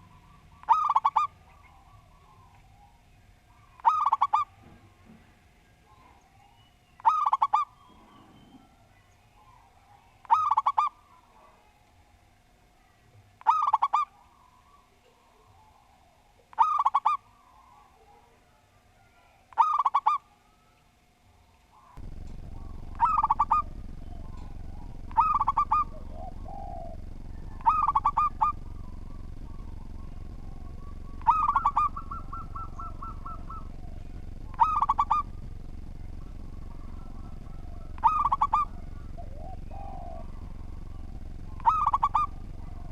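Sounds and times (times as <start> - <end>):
dove cooing song: 0.0 - 4.9, 5.8 - 11.5, 13.4 - 18.3, 19.5 - 20.4, 21.7 - 42.9
low background hum: 0.0 - 42.9.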